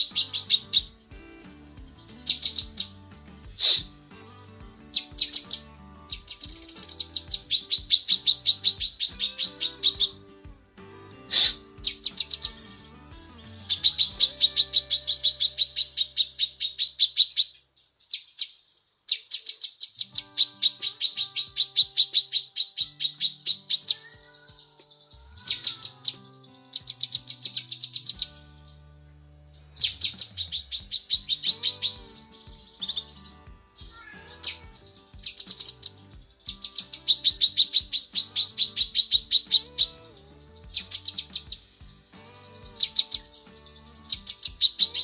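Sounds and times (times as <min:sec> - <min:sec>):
bird singing fast trills: 0:00.0 - 0:10.4, 0:11.2 - 0:28.8, 0:29.6 - 0:45.0.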